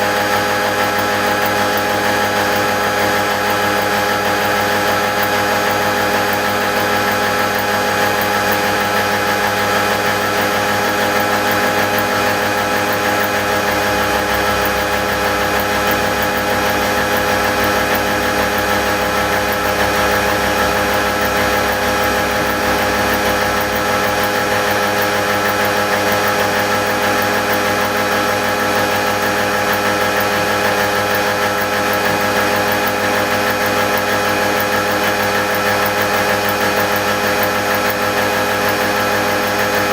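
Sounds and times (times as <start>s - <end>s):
cnc machine milling: 0.0s - 39.9s.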